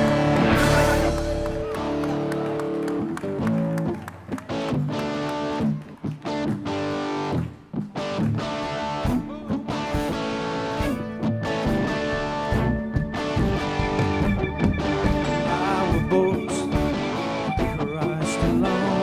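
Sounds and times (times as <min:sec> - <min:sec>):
band playing instrumental: 0:00.0 - 0:19.0
bass guitar: 0:00.0 - 0:19.0
electric guitar: 0:00.0 - 0:19.0.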